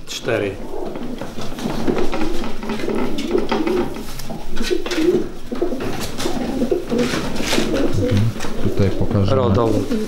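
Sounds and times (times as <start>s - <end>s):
pigeons cooing: 0.6s - 10.0s.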